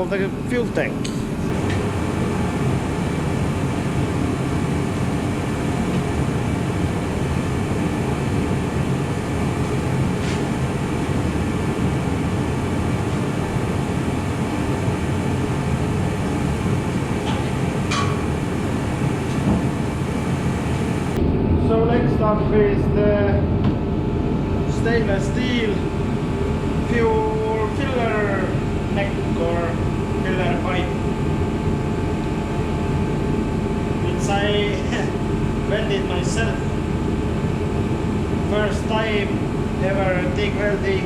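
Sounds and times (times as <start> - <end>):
steady mechanical drone: 0.0 - 41.0.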